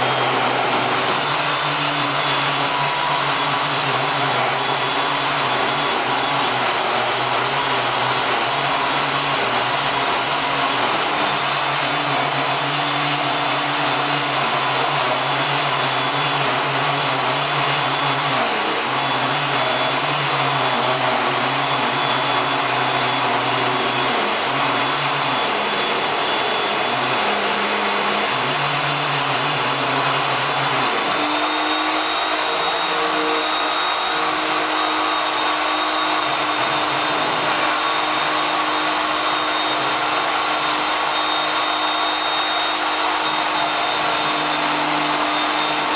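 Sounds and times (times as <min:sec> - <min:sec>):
metal-cutting power tool whining: 0:00.0 - 0:45.9.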